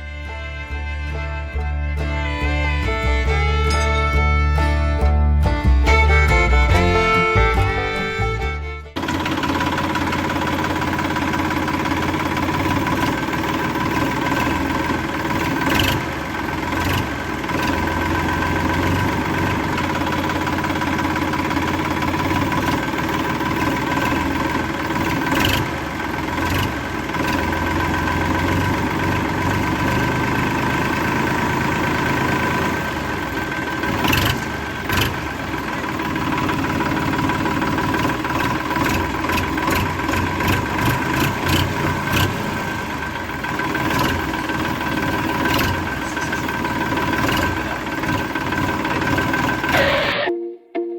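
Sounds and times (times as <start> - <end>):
motor running: 9.0 - 50.3.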